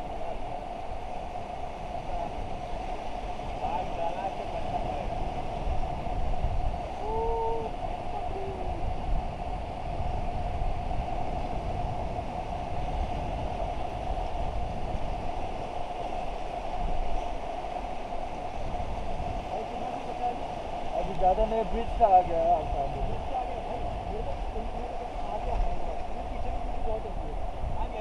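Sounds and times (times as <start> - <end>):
rushing river water: 0.0 - 28.0
wind buffeting microphone: 0.0 - 28.0.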